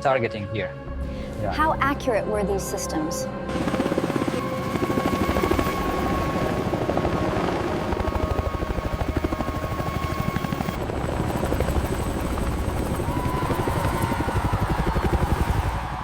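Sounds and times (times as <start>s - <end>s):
helicopter rotor beat: 1.4s - 16.0s.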